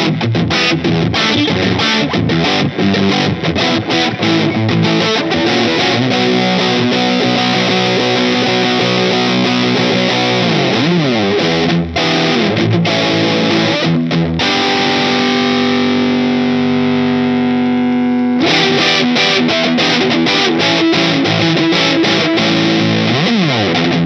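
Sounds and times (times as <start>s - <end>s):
distorted electric guitar: 0.0s - 24.0s.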